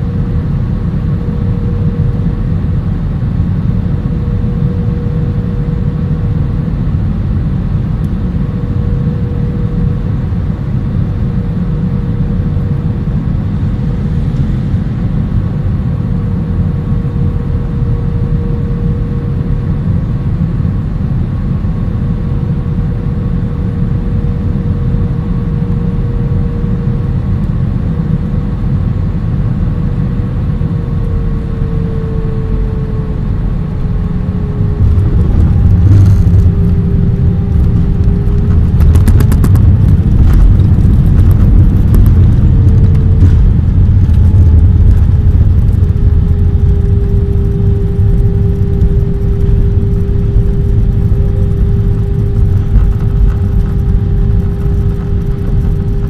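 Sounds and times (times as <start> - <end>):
jet engine and airflow rumble: 0.0 - 56.0.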